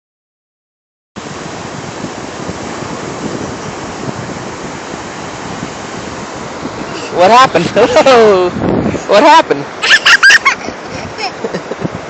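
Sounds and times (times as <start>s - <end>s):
wind buffeting microphone: 1.2s - 9.8s, 10.4s - 12.0s
ocean surf: 1.2s - 12.0s.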